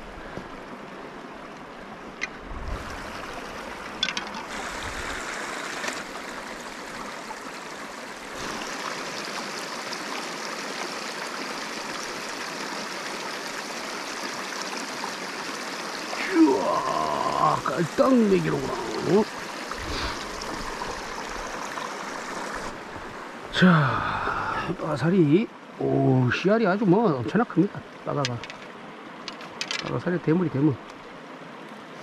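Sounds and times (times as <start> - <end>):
stream water trickling among boulders: 0.0 - 32.0.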